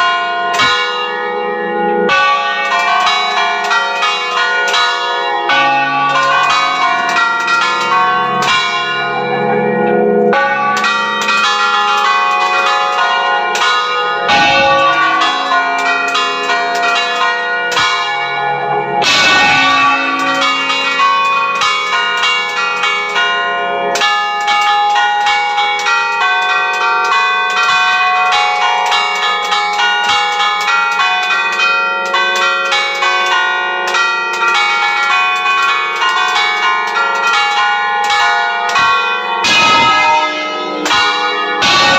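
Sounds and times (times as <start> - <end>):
church bells ringing: 0.0 - 41.9.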